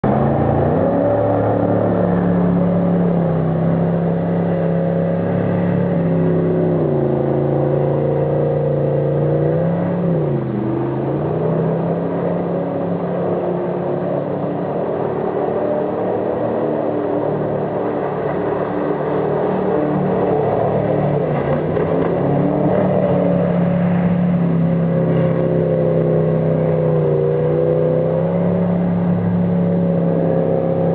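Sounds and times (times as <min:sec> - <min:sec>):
jet boat engine running: 0:00.0 - 0:30.9.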